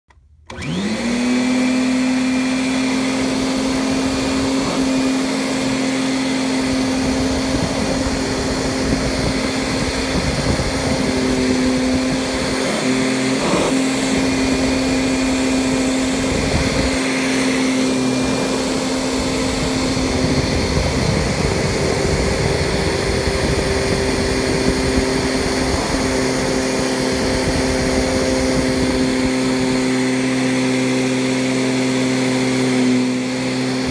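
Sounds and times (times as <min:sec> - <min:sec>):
vacuum cleaner running: 0:00.4 - 0:33.9
vacuum cleaner on carpet: 0:00.5 - 0:33.9.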